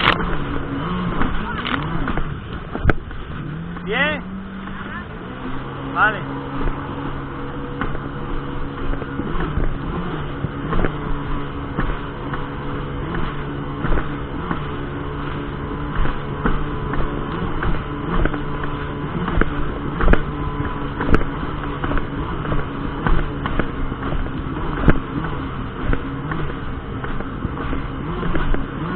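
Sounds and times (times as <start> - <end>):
jet ski engine running: 0.0 - 28.9.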